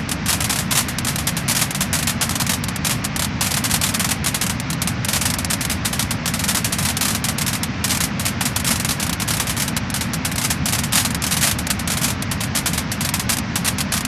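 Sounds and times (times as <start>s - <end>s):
low fire rumble: 0.0s - 14.0s
wood fire crackling and popping: 0.0s - 14.0s.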